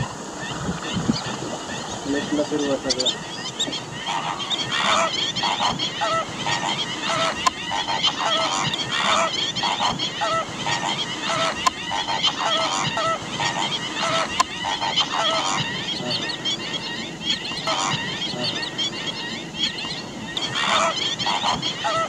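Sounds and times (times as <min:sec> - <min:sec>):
flamingos honking: 0:00.0 - 0:22.0.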